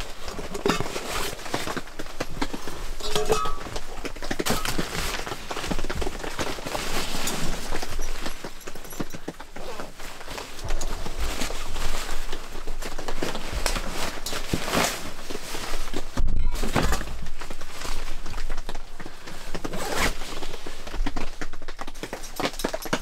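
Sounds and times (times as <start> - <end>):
backpack and stuff sack rustling: 0.0 - 21.2.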